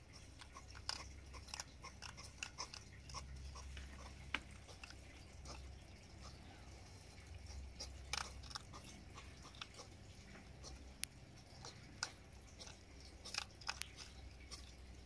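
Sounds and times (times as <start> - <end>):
hedgehog chewing with clicks: 0.0 - 15.0.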